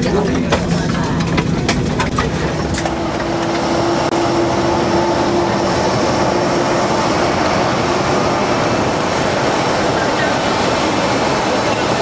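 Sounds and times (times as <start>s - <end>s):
airplane cabin hum and air rush: 0.0s - 12.0s.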